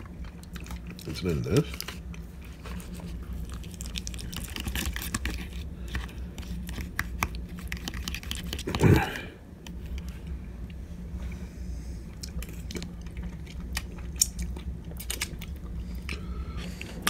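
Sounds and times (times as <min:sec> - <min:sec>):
chewing food: 0:00.0 - 0:09.1, 0:12.1 - 0:17.0.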